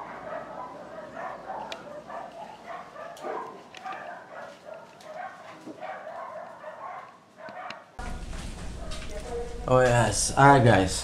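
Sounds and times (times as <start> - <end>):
dog barking: 0.0 - 9.7.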